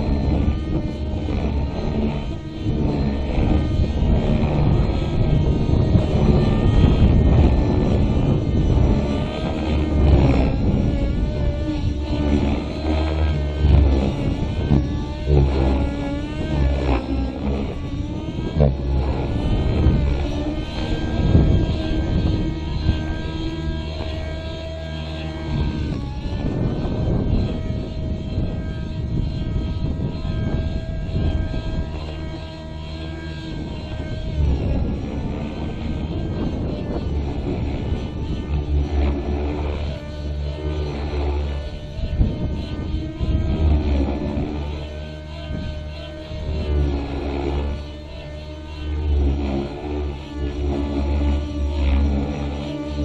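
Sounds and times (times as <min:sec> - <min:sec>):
helicopter rotor: 0:00.0 - 0:53.0
model helicopter engine running hard: 0:00.0 - 0:53.0.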